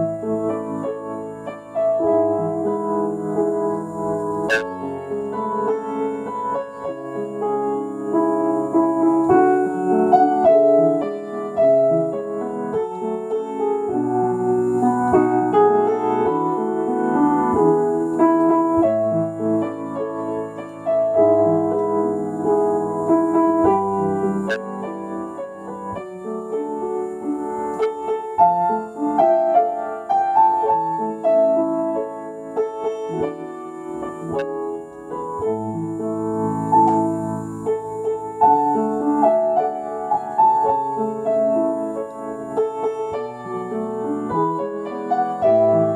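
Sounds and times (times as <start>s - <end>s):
slow solo piano: 0.0s - 45.9s.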